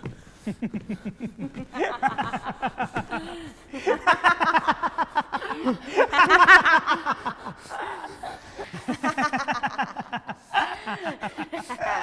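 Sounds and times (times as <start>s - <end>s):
people laughing: 0.4s - 12.0s
woman laughing: 0.6s - 12.0s.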